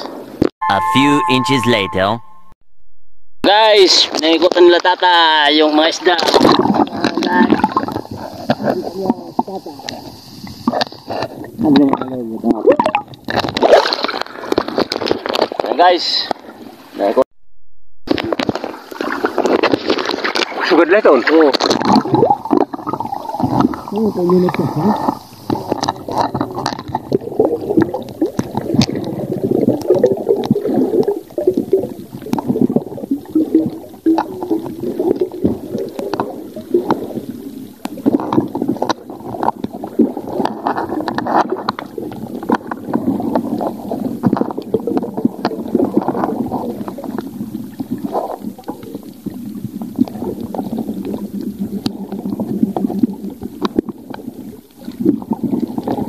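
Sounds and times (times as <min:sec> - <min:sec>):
water gurgling underwater: 0:06.2 - 0:15.7, 0:18.1 - 0:56.0.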